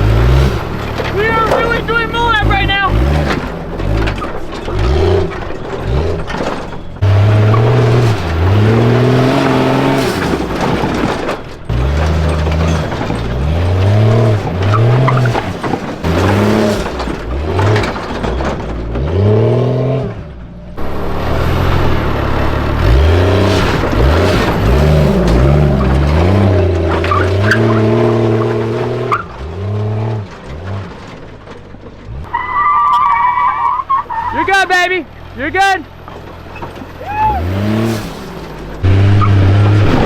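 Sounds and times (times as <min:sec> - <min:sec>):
engine revving in bursts: 0:00.0 - 0:18.0, 0:19.0 - 0:30.9, 0:37.3 - 0:40.0.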